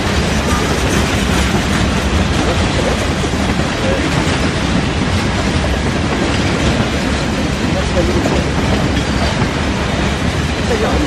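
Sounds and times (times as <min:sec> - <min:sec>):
freight train rumbling past: 0:00.0 - 0:11.0
wheels clattering over rails: 0:00.0 - 0:11.0.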